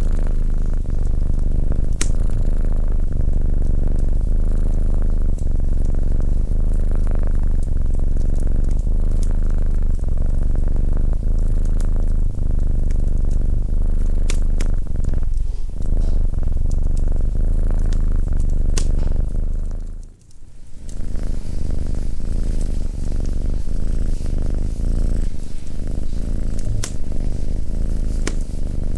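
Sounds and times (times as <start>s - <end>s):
cat purring: 0.0s - 28.9s
wood fire crackling: 0.0s - 28.9s.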